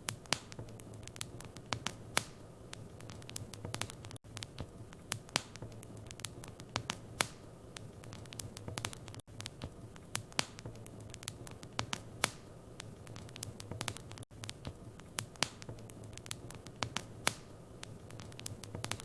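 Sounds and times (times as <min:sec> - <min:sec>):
sharp pops and snaps: 0:00.0 - 0:19.0
wood fire crackling: 0:00.0 - 0:19.0.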